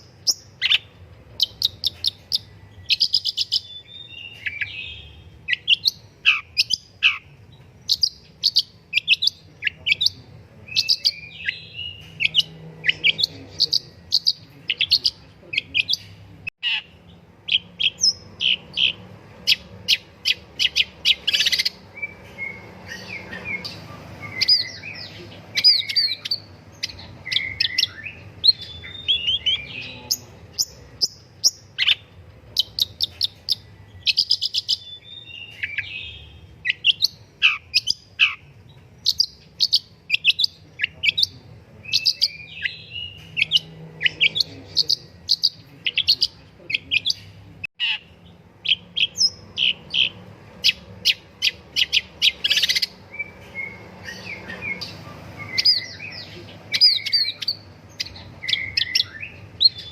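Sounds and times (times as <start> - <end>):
shrike singing: 0.0 - 59.9.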